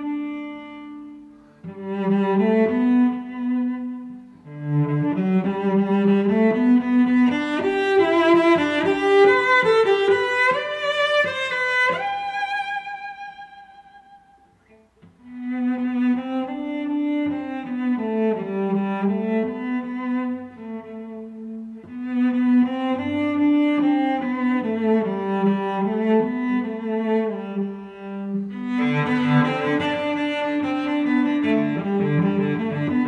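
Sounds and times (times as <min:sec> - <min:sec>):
slow bowed string music: 0:00.0 - 0:33.0.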